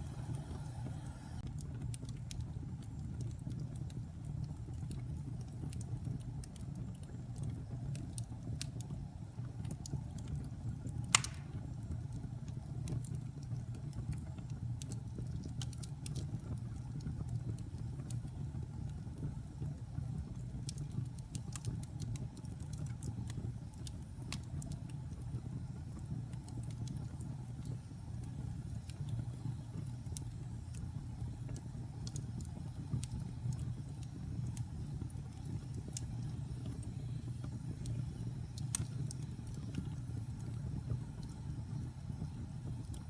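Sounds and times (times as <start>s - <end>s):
burning logs crackling and popping: 0.0s - 43.0s
fire rumbling: 0.0s - 43.0s.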